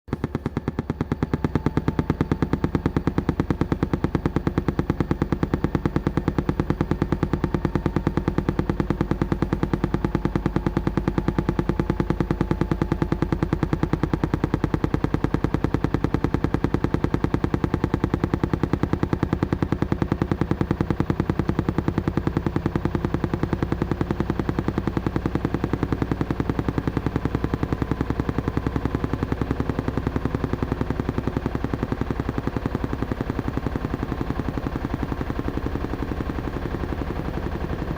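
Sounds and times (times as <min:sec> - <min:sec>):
washing machine spinning: 0:00.1 - 0:37.9.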